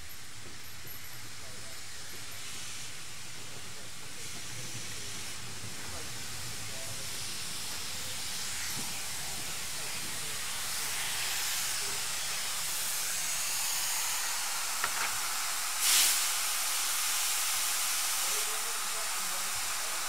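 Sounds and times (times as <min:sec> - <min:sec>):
steam blast: 0:00.0 - 0:20.0
steam hissing: 0:00.0 - 0:20.0.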